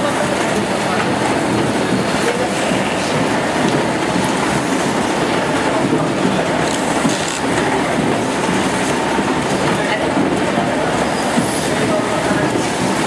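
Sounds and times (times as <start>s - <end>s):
die cutting machine clattering: 0.0s - 13.0s.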